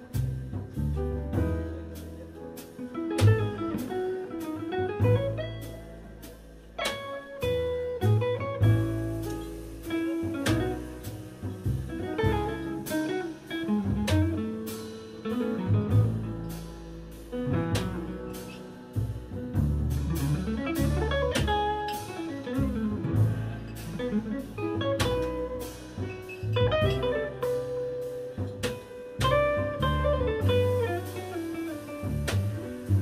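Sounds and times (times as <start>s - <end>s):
drum kit with cymbals: 0.0s - 33.0s
piano: 0.0s - 33.0s
upright bass: 0.0s - 33.0s
electric guitar melody: 2.8s - 18.9s, 20.0s - 33.0s.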